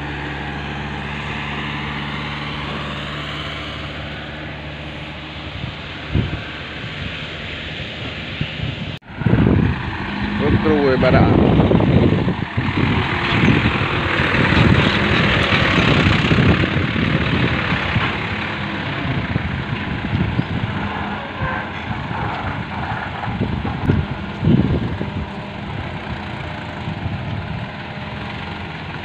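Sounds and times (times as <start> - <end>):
diesel engine rumbling: 0.0 - 29.0.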